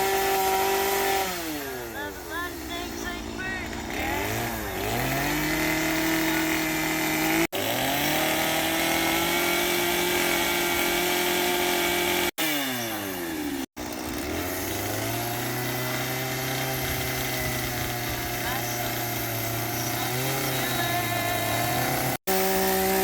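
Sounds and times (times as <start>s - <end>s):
chainsaw carving wood: 0.0s - 23.0s.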